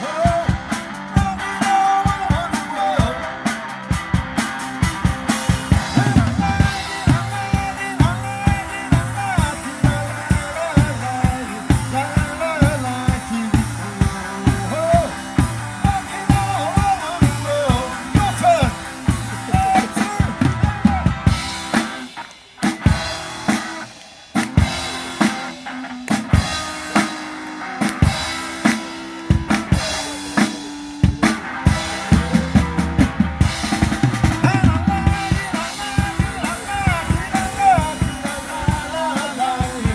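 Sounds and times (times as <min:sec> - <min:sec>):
drum kit beating: 0:00.0 - 0:39.9
rock music: 0:00.0 - 0:39.9.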